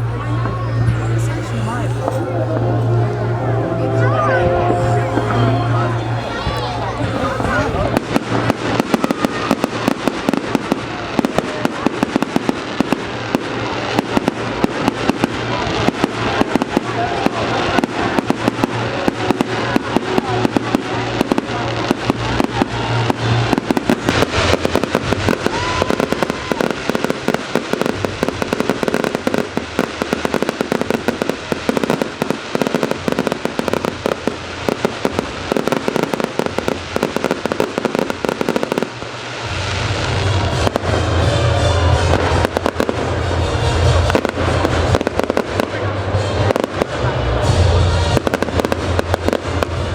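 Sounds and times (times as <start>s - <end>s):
fireworks crackling: 0.0s - 49.9s.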